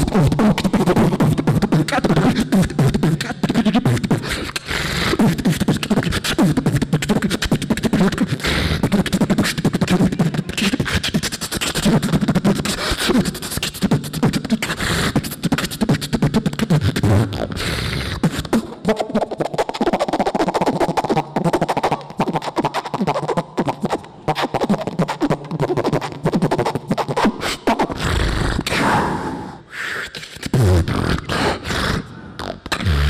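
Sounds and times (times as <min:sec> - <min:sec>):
person beatboxing into microphone: 0:00.0 - 0:33.0.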